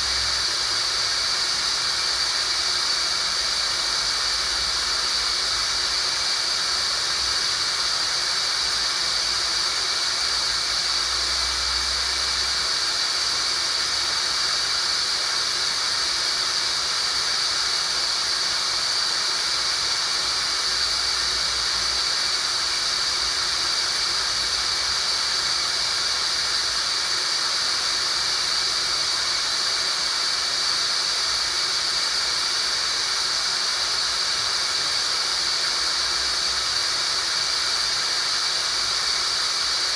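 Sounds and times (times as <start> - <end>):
steady high-pitched hiss: 0.0 - 39.9.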